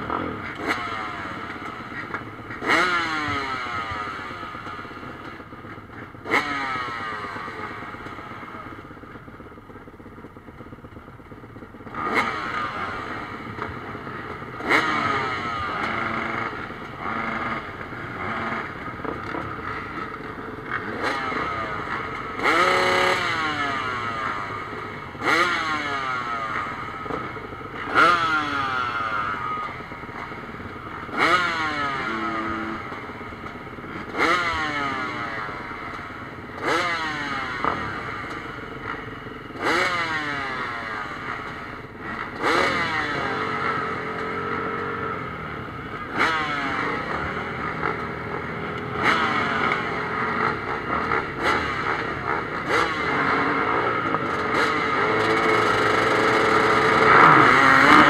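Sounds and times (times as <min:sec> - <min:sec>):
motocross bikes idling: 0:00.0 - 0:58.0
motorcycle engines revving: 0:00.0 - 0:58.0.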